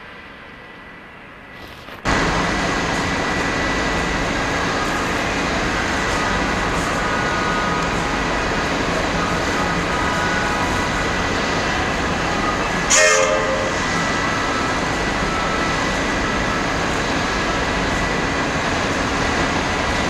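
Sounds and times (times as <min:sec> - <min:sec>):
electric train motors rumbling: 0:00.0 - 0:20.0
train whining tones: 0:00.0 - 0:20.0.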